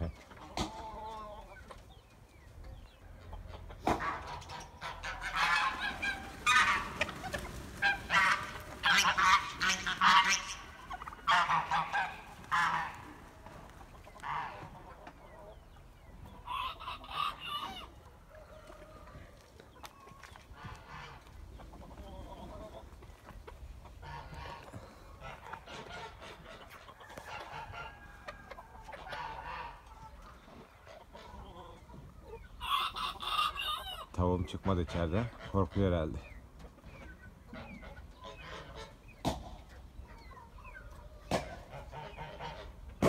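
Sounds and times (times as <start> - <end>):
geese honking: 3.1 - 15.5, 16.3 - 18.1, 20.5 - 36.3, 37.3 - 39.2, 40.3 - 43.0.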